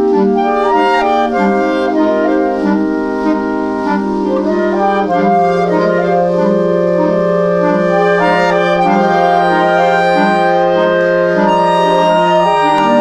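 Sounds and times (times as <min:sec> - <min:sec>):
slow clarinet chords: 0:00.0 - 0:13.0.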